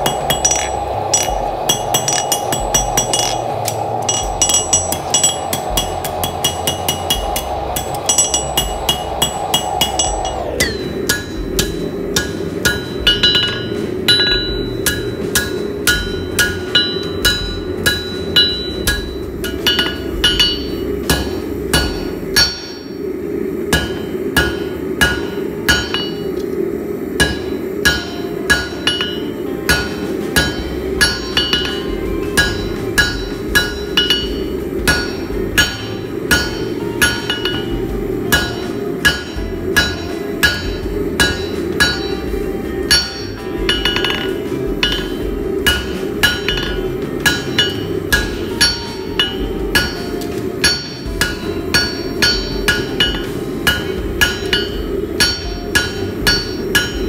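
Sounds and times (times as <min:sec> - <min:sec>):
hammer striking hot metal on anvil: 0:00.0 - 0:57.0
steady rushing noise: 0:00.0 - 0:57.0.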